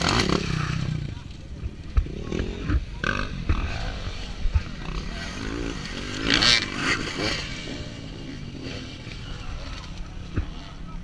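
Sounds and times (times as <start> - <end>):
dirt bike engine revving: 0.0 - 11.0
spectators' voices: 0.0 - 11.0.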